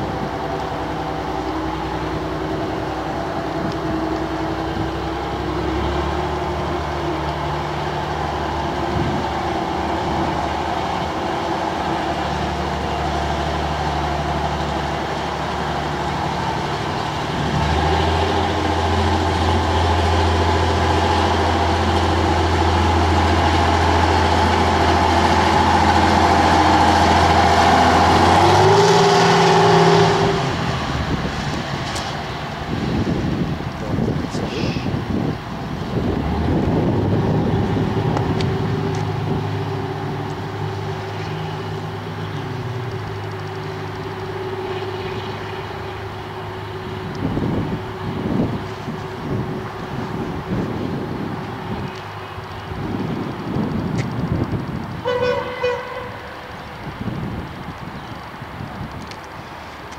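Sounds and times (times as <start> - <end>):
railcar engine running: 0.0 - 59.9.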